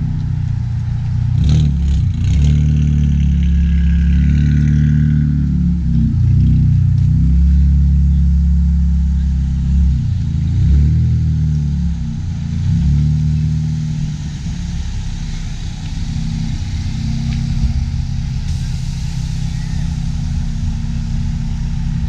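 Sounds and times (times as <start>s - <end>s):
car exhaust drone with revs: 0.0s - 22.0s.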